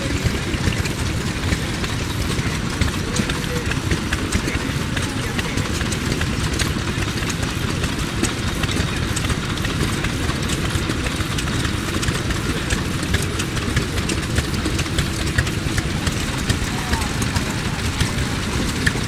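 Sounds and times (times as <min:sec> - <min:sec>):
machine clicking clatter: 0:00.0 - 0:19.0
stationary engine running: 0:00.0 - 0:19.0.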